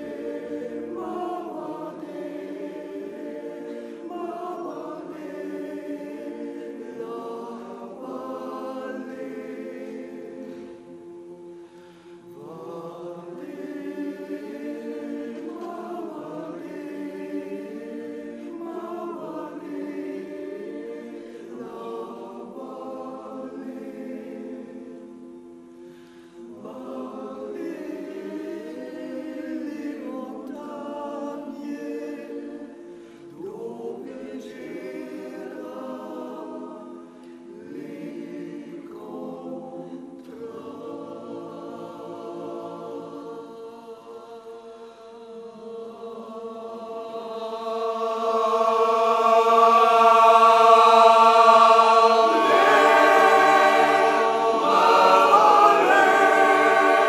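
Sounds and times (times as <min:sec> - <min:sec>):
men's choir singing: 0:00.0 - 0:57.0.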